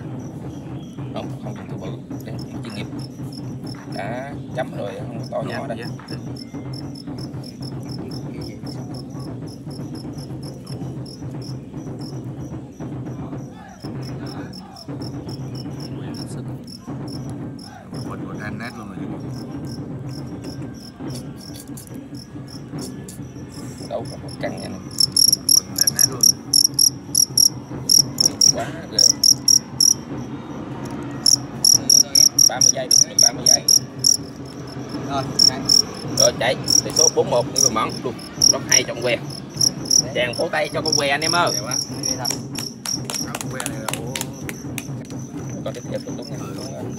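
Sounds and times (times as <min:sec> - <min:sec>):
crickets chirping: 0:00.0 - 0:18.2, 0:19.0 - 0:46.9.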